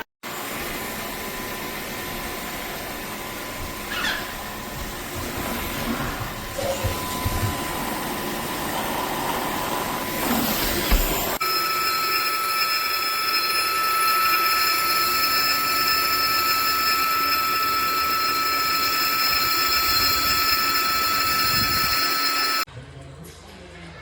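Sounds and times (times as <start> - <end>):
vacuum cleaner running: 0.2 - 22.7.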